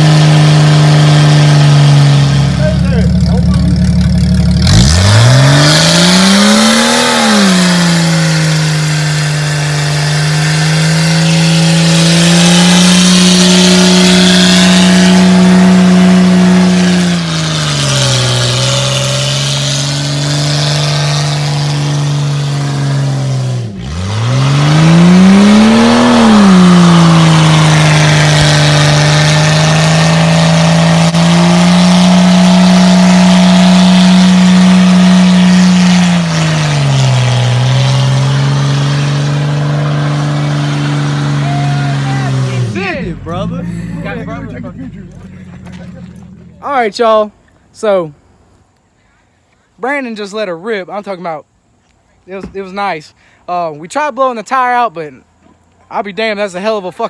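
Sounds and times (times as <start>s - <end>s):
engine revving at high revs: 0.0s - 46.6s
tyre squealing on pavement: 0.0s - 46.7s.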